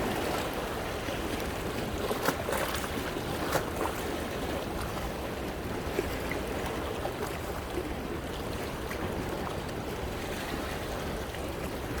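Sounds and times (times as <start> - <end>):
waves washing over rocks: 0.0 - 12.0.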